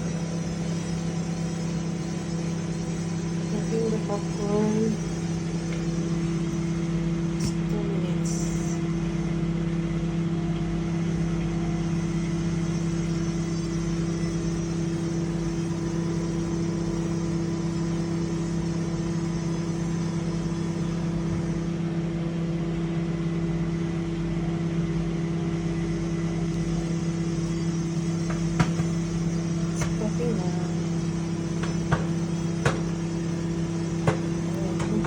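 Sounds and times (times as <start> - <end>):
faint high whine: 0.0 - 35.0
microwave oven humming: 0.0 - 35.0.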